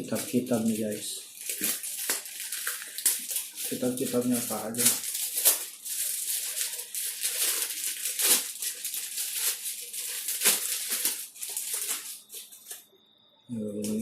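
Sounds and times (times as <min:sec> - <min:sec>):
paper rustling and crinkling: 0:00.0 - 0:12.8.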